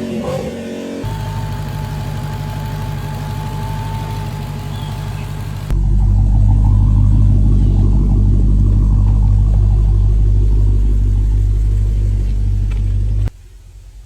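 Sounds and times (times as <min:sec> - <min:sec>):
loud low car engine running: 0:00.0 - 0:13.3.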